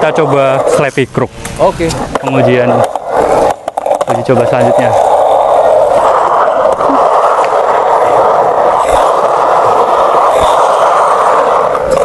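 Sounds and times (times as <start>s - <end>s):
skateboard grinding rumble on concrete: 1.6s - 12.0s.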